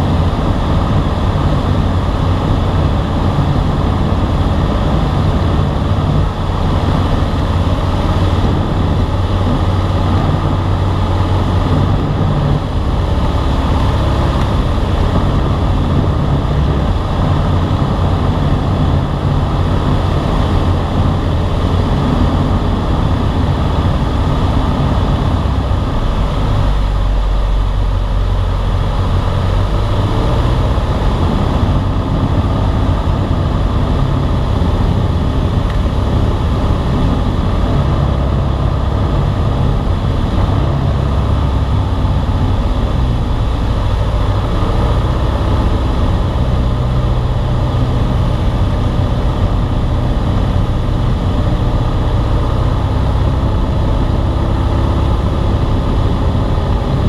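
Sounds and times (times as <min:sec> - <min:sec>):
airflow noise: 0:00.0 - 0:57.0
light aircraft engine drone: 0:00.0 - 0:57.0.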